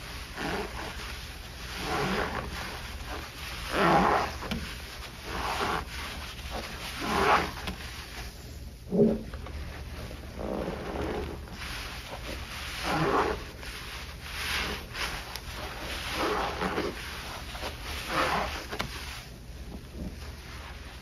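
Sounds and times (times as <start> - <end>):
sponge squelching in suds: 0.0 - 21.0
steady low hum: 0.0 - 21.0.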